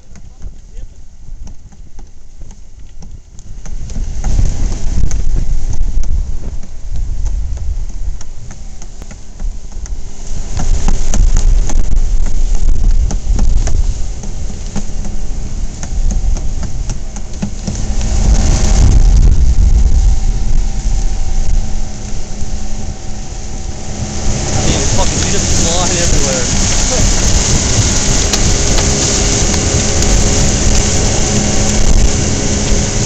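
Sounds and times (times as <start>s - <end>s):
boat engine running: 0.0s - 33.0s
low rumble: 0.0s - 33.0s.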